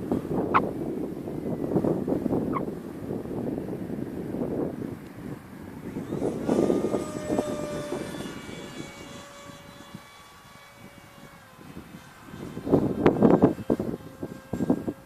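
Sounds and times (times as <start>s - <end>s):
model plane motor whine: 0.0s - 15.0s
wind gusts on microphone: 0.0s - 15.0s.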